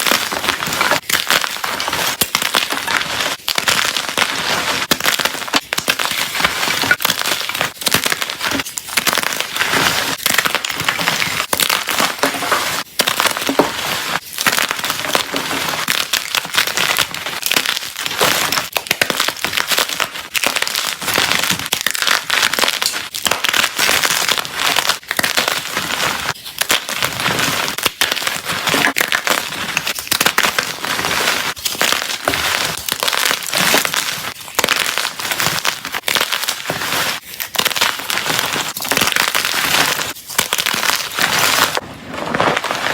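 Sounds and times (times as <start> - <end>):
chalk blocks crunching: 0.0 - 42.9.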